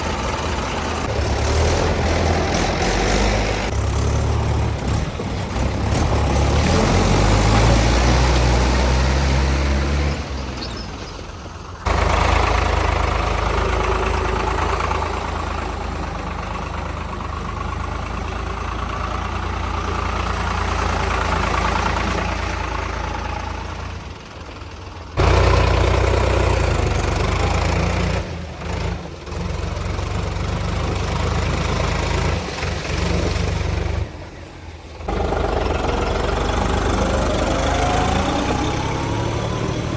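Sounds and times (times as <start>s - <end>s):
diesel tractor engines under load: 0.0s - 39.9s.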